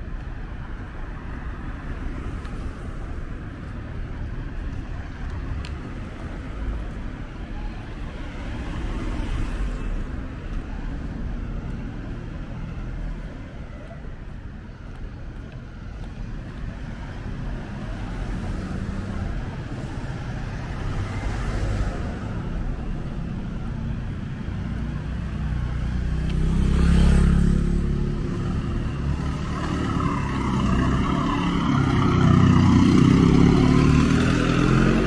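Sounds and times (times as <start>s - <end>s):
cars passing: 0.0s - 35.0s.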